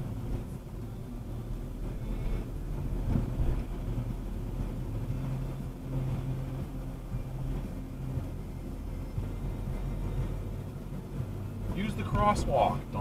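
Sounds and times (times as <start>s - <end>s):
car engine and tyre hum: 0.0s - 13.0s.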